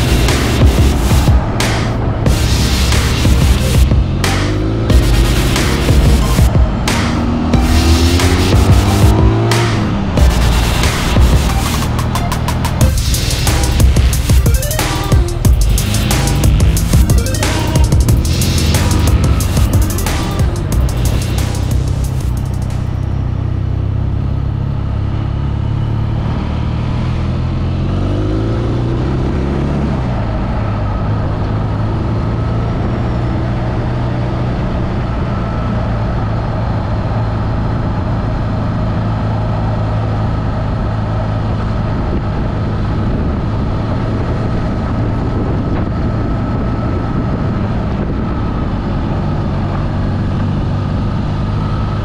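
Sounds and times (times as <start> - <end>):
motorcycle engine accelerating: 0.0 - 52.0
traffic and road noise: 0.0 - 52.0.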